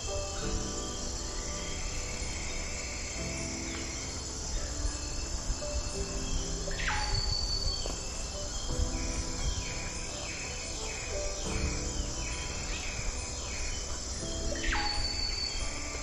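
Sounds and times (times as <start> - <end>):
falling bird calls: 0.0 - 16.0
insects trilling: 0.0 - 16.0
soft background music: 0.0 - 16.0.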